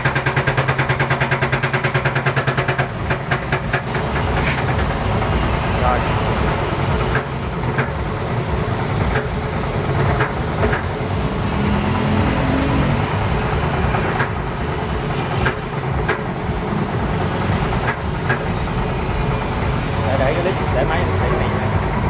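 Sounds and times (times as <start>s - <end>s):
machine motor drone: 0.0s - 22.0s.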